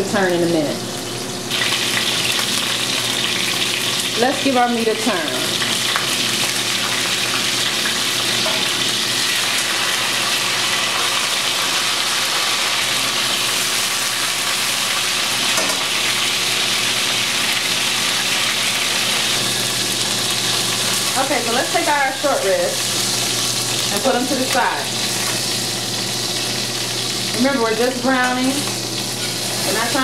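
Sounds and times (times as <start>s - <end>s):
meat sizzling in oil: 0.2s - 30.0s.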